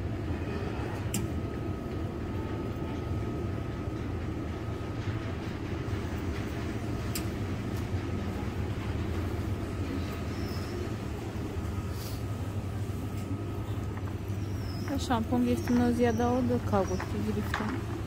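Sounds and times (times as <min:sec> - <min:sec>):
supermarket background rumble: 0:00.0 - 0:18.0.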